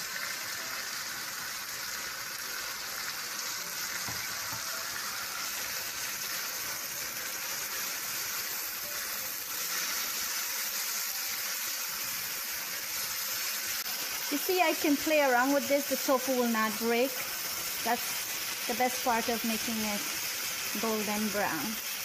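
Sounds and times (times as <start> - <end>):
food sizzling in a hot pan: 0.0 - 22.0.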